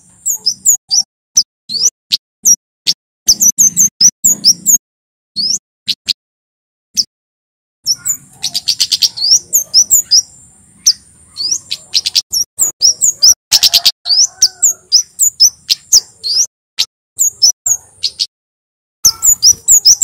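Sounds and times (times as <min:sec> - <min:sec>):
bird chirping rapidly: 0:00.0 - 0:04.8, 0:05.4 - 0:06.2, 0:07.8 - 0:18.3, 0:19.0 - 0:20.0.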